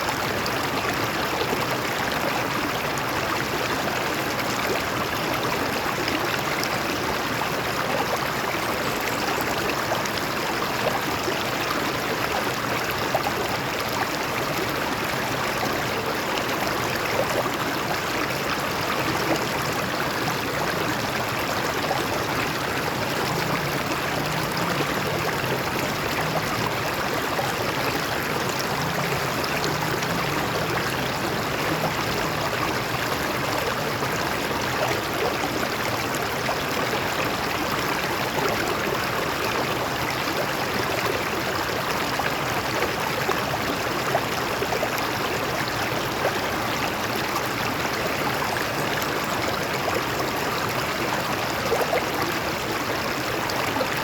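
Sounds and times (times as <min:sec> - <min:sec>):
stream water over rocks: 0:00.0 - 0:54.0.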